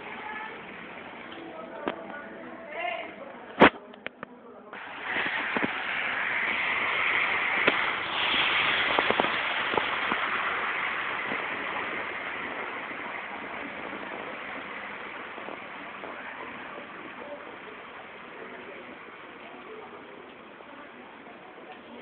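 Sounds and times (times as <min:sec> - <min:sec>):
rain and tyre spray hissing: 0:00.0 - 0:01.8, 0:04.8 - 0:22.0.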